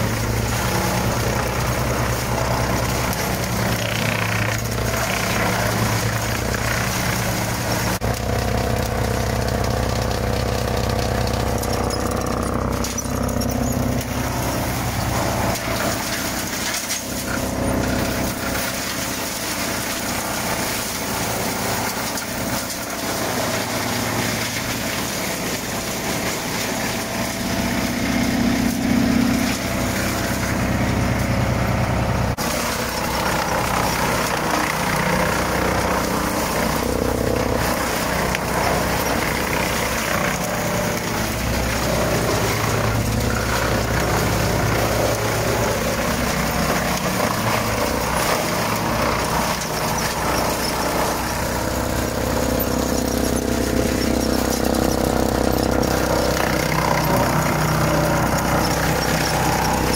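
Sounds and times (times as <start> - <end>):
tractor engine hum: 0.0 - 59.9
wood chipper shredding branches: 0.0 - 59.9.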